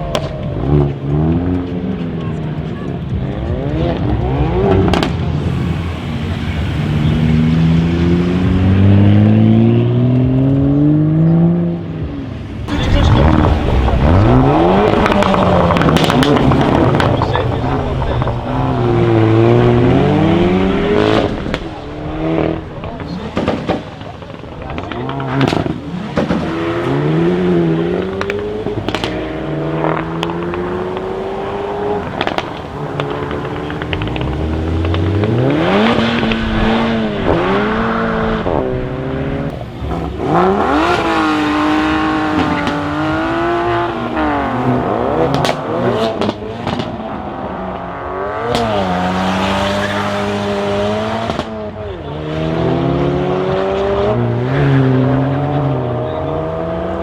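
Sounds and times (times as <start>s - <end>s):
exhaust crackles and pops: 0.0s - 9.1s, 12.3s - 57.0s
car engine accelerating hard: 0.0s - 57.0s.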